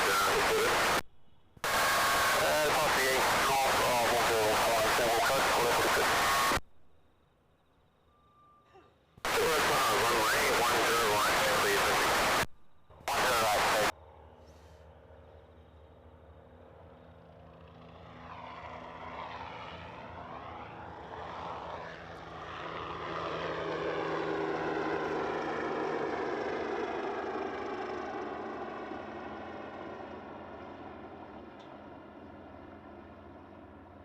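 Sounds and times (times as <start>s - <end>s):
aircraft flying past: 1.7s - 6.6s, 9.3s - 12.4s, 13.1s - 34.0s.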